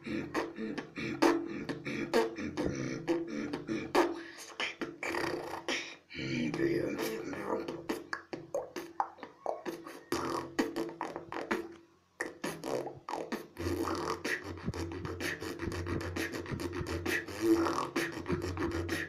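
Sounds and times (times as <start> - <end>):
woman beatboxing: 0.0 - 19.0.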